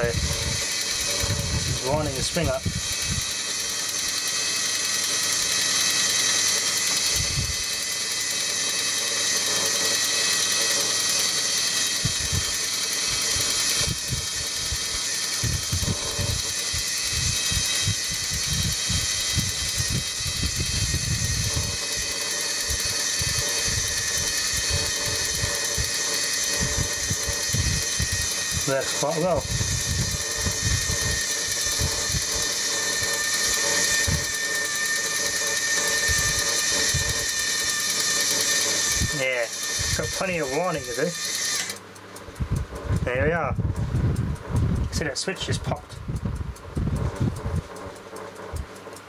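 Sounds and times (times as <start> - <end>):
clockwork gears whirring: 0.0 - 49.0.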